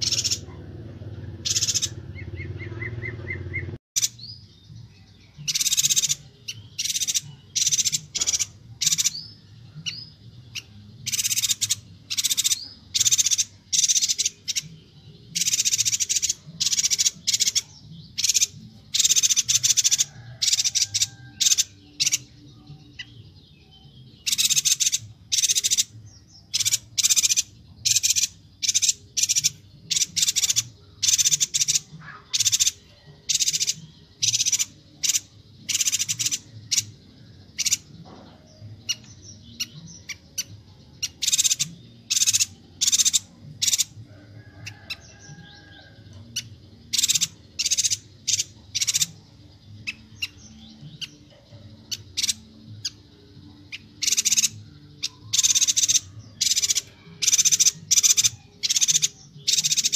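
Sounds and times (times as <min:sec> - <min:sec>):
bird chirping calls: 0:00.0 - 0:59.9.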